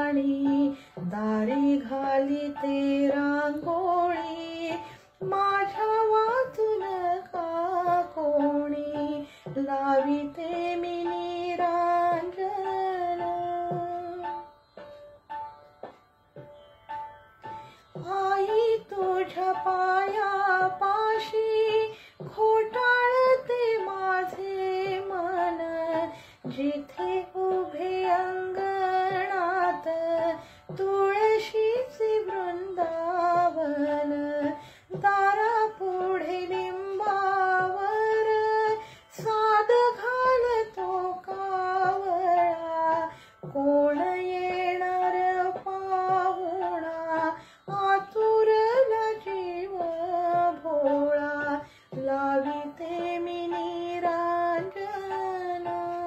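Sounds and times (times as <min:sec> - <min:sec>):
woman singing: 0:00.0 - 0:14.6, 0:17.9 - 0:56.0.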